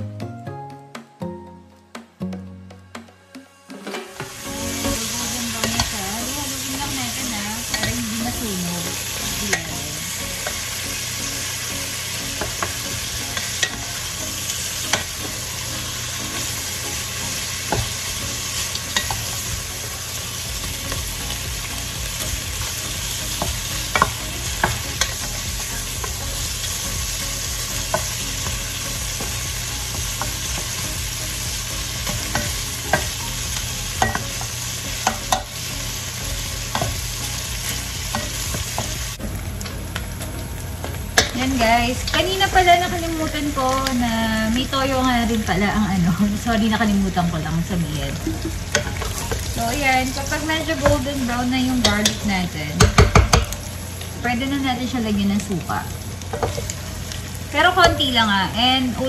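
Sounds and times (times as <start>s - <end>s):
meat sizzling in a pan: 3.8s - 59.0s.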